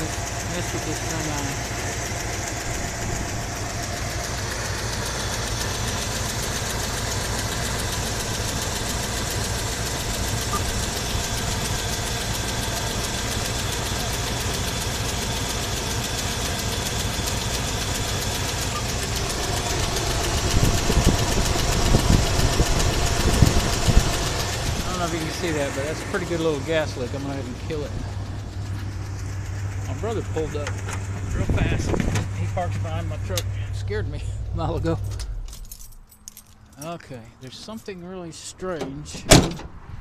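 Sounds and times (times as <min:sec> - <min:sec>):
car engine idling: 0:00.0 - 0:39.9
uneven low buffeting: 0:00.0 - 0:40.0.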